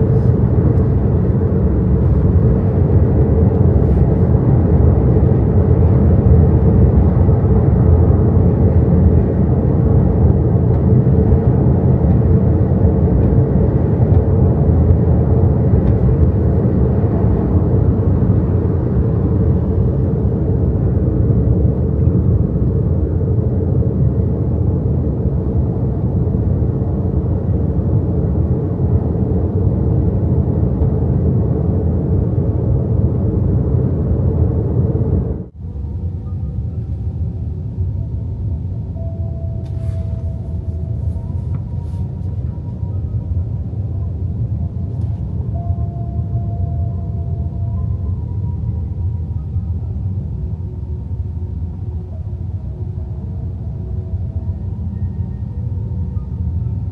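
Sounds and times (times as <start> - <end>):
road and tyre rumble: 0.0 - 48.2.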